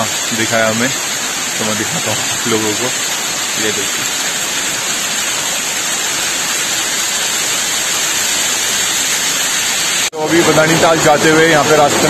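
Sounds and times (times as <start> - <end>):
waterfall splashing over rocks: 0.0 - 12.0.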